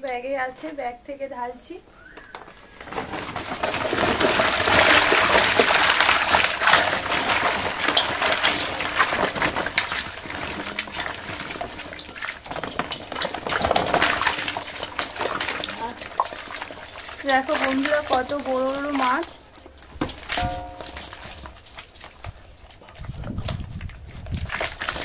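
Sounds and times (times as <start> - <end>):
fish splashing into a bowl of water: 2.2 - 25.0.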